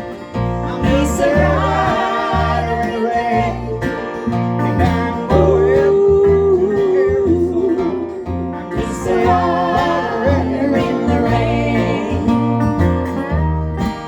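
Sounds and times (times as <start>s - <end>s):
plucked guitars and banjo: 0.0s - 14.0s
upright double bass: 0.0s - 14.0s
women singing: 0.7s - 4.0s, 4.8s - 13.6s.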